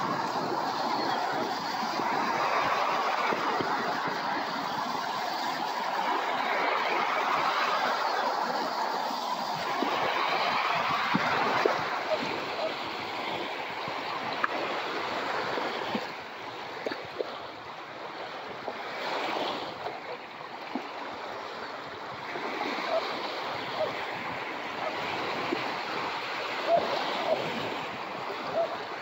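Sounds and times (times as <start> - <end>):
sharp wave splashes: 0.0 - 29.0
surf rushing on a beach: 0.0 - 29.0.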